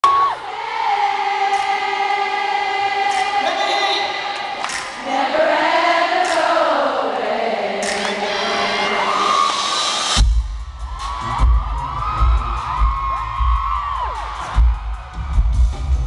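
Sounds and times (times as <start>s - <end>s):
pop vocals singing long notes: 0.0s - 16.0s.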